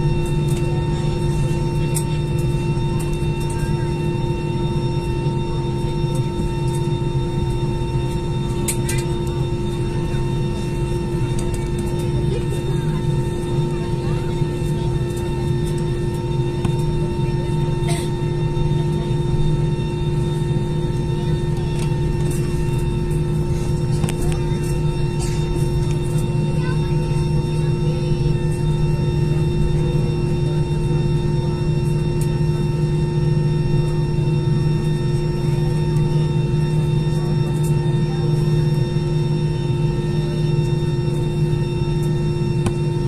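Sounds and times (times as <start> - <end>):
jet engines droning in cabin: 0.0 - 43.0.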